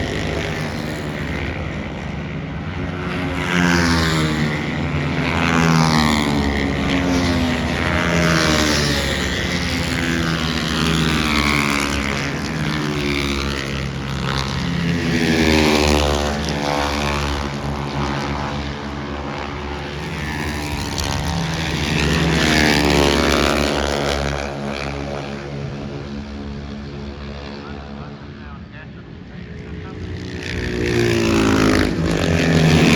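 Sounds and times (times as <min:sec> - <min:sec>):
racing engines passing: 0:00.0 - 0:32.9.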